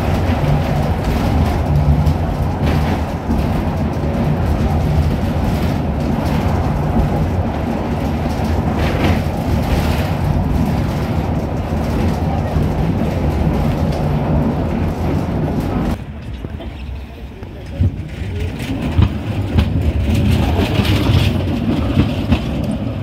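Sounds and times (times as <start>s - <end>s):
tram wheels rumbling on rails: 0.0s - 23.0s.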